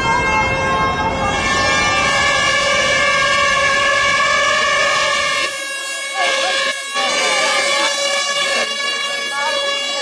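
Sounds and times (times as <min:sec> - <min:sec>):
crowd noise: 0:00.0 - 0:10.0
sirens sounding held tones: 0:00.0 - 0:10.0.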